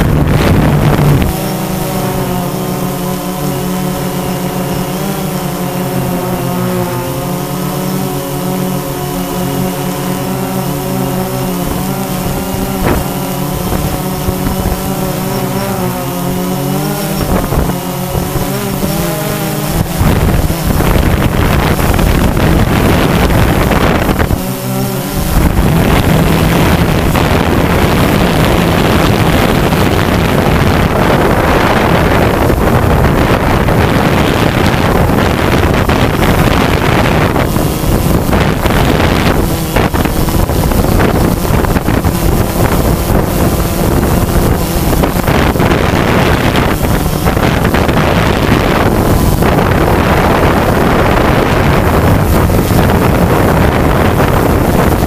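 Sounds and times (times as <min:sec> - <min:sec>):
drone motors whining: 0:00.0 - 0:55.0
wind-like rushing: 0:00.0 - 0:55.0.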